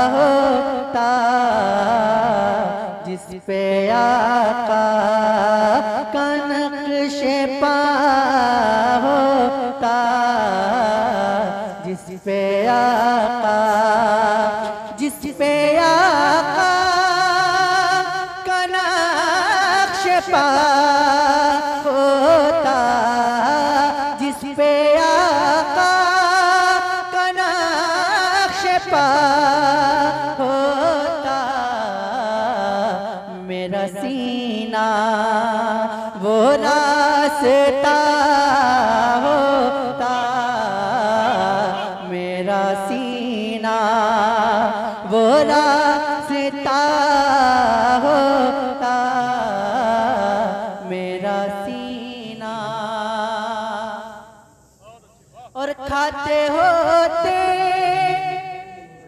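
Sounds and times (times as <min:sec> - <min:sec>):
man singing with vibrato: 0:00.0 - 0:59.0.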